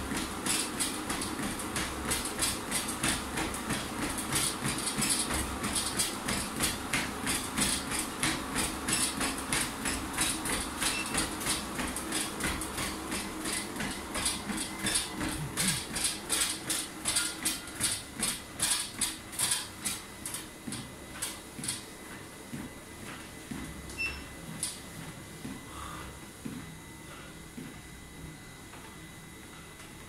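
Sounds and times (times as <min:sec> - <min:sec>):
footfalls on treadmill belt: 0:00.0 - 0:26.8, 0:27.5 - 0:28.0
treadmill humming: 0:00.0 - 0:30.0.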